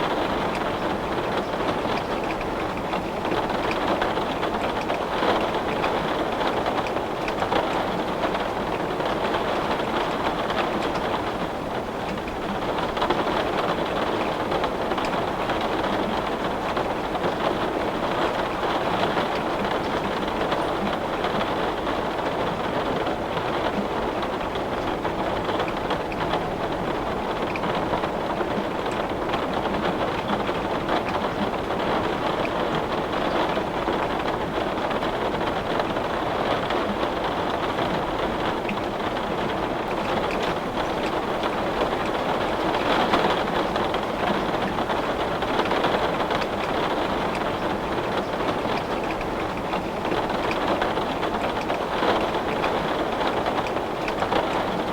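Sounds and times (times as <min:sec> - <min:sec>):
heavy rain on window glass: 0:00.0 - 0:54.9.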